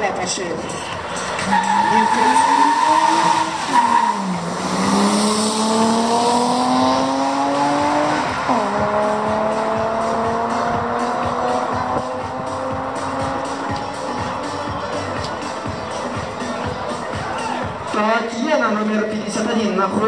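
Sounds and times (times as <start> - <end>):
car engines accelerating hard: 0.0 - 20.0.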